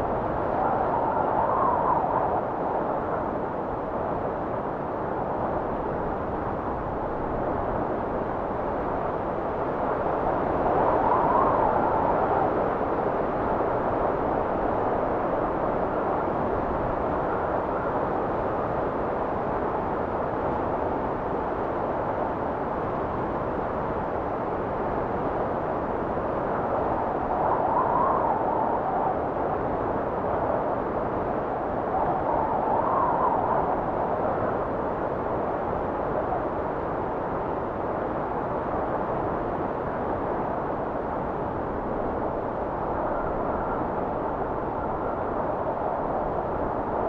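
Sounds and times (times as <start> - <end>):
blizzard wind blowing: 0.0 - 47.0.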